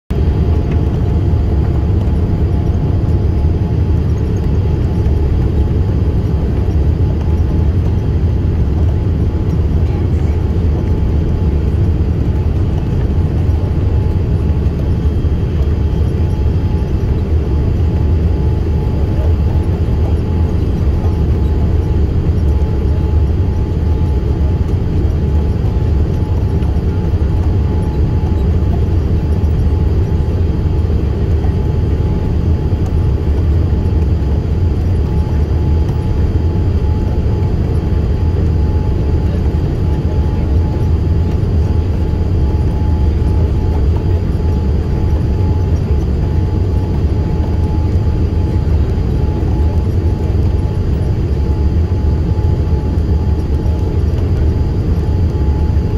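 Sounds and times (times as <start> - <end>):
aircraft cabin engine rumble: 0.1 - 55.9.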